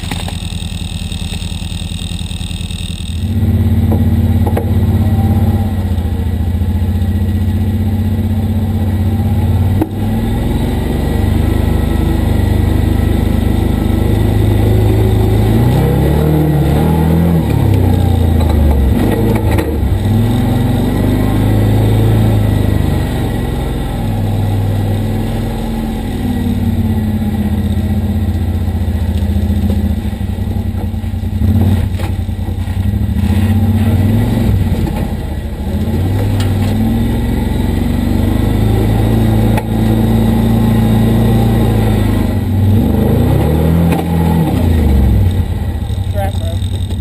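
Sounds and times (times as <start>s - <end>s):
engine running under load: 0.0s - 47.0s.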